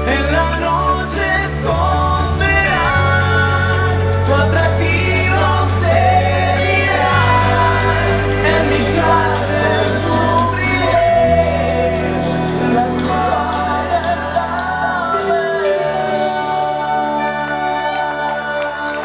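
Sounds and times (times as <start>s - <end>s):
band playing slow song: 0.0s - 19.0s
lead vocal singing: 0.0s - 19.0s.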